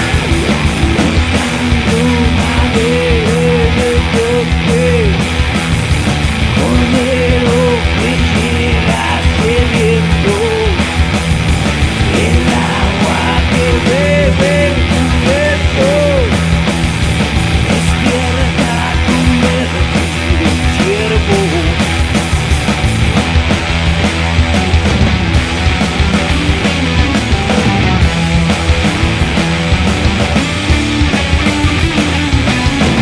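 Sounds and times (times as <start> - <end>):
drum beat: 0.0 - 33.0
rock music with electric guitar: 0.0 - 33.0.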